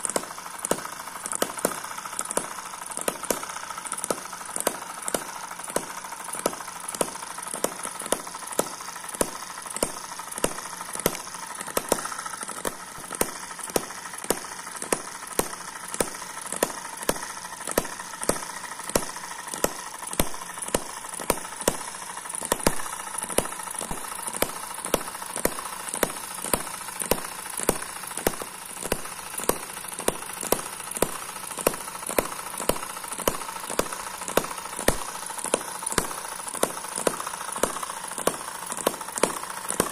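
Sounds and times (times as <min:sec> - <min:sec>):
small engine beating: 0:00.0 - 0:39.9.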